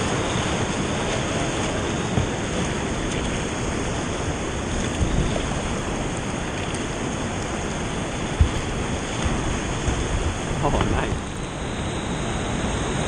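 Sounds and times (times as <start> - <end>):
churning river water: 0.0 - 13.0.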